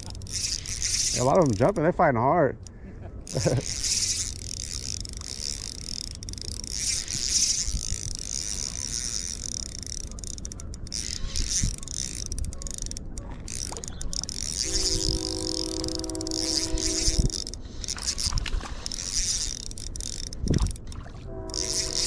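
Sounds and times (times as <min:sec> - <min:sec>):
fishing reel whirring: 0:00.0 - 0:02.0, 0:02.6 - 0:22.0
wind rumbling on microphone: 0:02.9 - 0:22.0.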